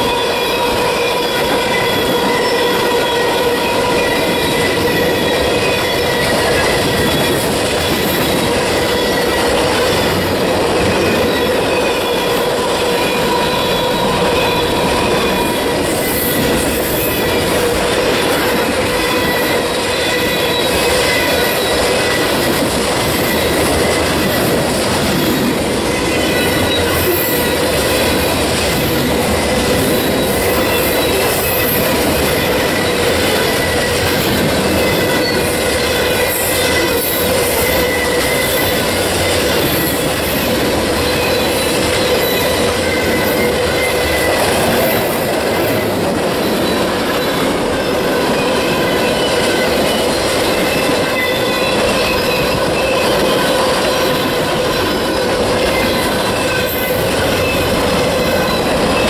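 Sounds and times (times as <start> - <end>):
high ringing wheel squeal: 0.0 - 59.0
steel wheels rolling on rail: 0.0 - 59.0.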